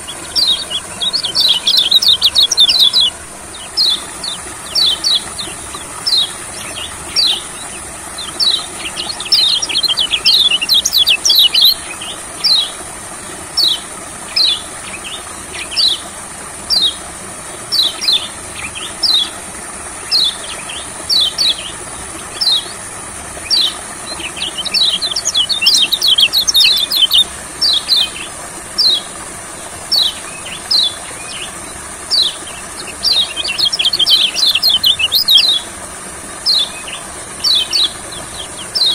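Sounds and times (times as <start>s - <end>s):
bird chirping and twittering: 0.0s - 12.8s, 13.5s - 16.1s, 16.7s - 17.0s, 17.6s - 29.2s, 29.9s - 35.7s, 36.4s - 38.9s.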